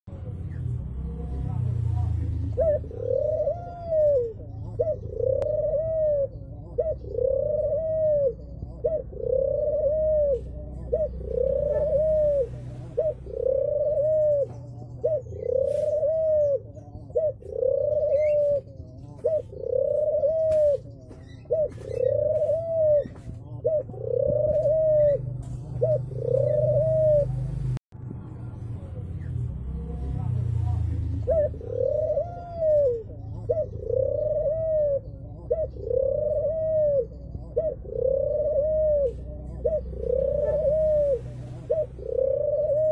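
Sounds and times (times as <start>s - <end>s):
dove cooing: 0.2s - 27.8s, 29.8s - 42.9s.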